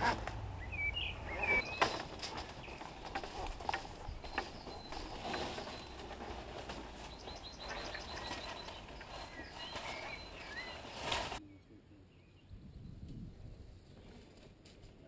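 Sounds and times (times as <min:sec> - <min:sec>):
steady outdoor noise: 0:00.0 - 0:15.0
bird chirping: 0:00.6 - 0:13.1.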